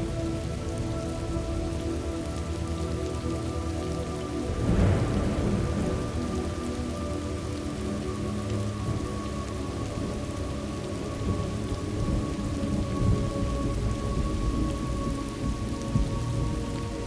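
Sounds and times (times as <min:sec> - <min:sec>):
heavy rain hissing: 0:00.0 - 0:17.0
thunder rumbling: 0:00.0 - 0:17.0.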